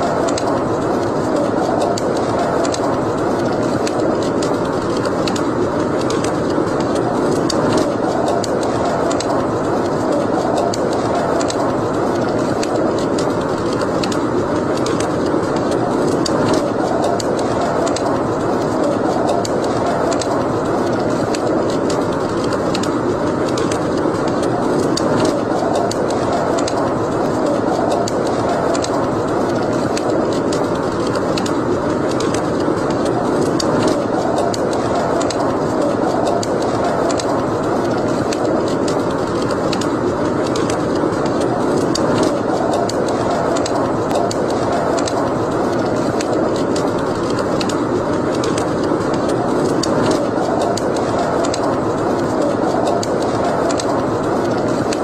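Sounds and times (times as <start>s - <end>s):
fire crackling and popping: 0.0s - 55.0s
steady rushing noise: 0.0s - 55.0s.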